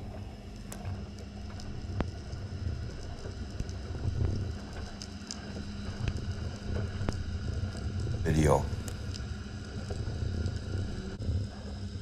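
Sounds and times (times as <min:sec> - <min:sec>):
underwater low rumble: 0:00.0 - 0:12.0.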